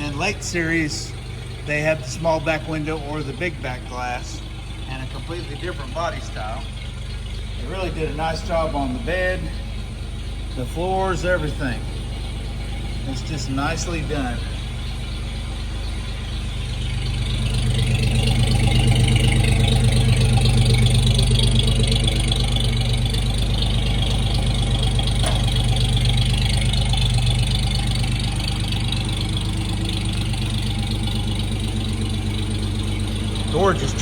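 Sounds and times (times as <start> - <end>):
pickup truck engine idling: 0.0 - 34.0.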